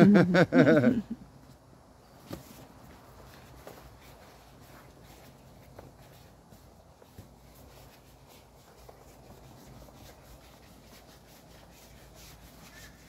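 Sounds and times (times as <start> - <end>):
objects rustling and rubbing: 2.2 - 13.0.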